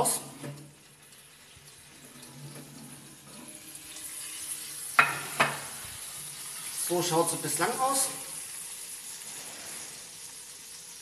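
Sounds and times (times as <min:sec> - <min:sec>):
hot fat sizzling faintly: 0:00.0 - 0:11.0
low oven hum: 0:00.0 - 0:11.0.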